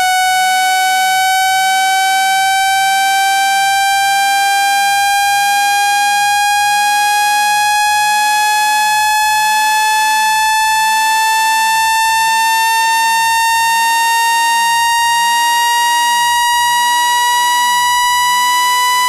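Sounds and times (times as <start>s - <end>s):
buzzy tone rising in pitch: 0.0s - 19.0s.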